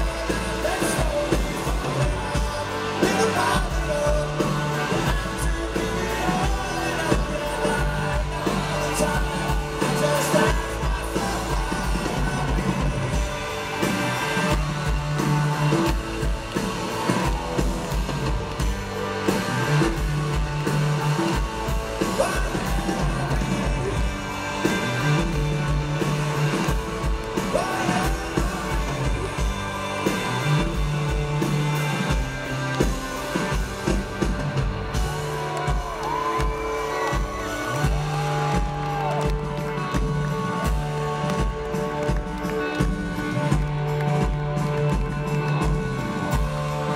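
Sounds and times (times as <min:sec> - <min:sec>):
live rock band with singing: 0:00.0 - 0:46.9.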